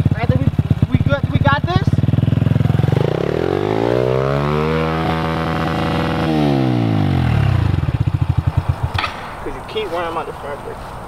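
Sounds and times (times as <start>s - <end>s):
dirt bike engine revving: 0.0s - 9.8s.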